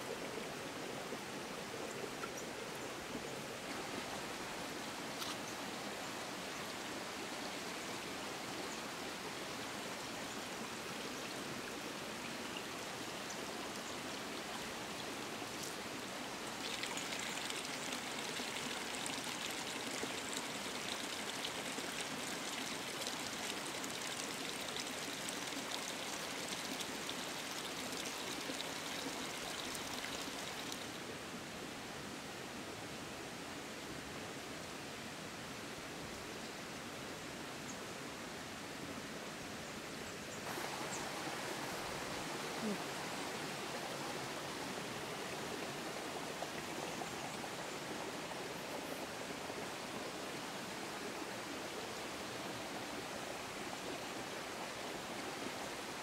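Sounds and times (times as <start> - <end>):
stream rushing: 0.0 - 39.2, 39.8 - 56.0.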